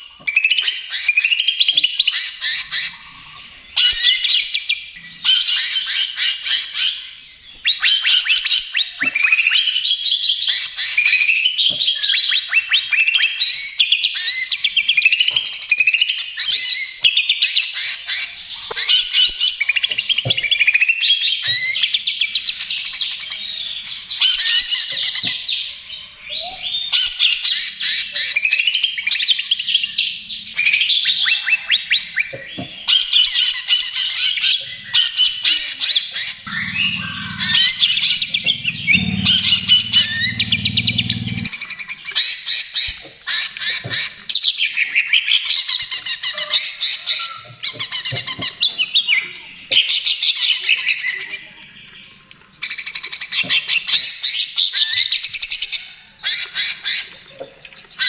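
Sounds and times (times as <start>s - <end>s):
bird singing trills and whistles: 0.0s - 52.0s.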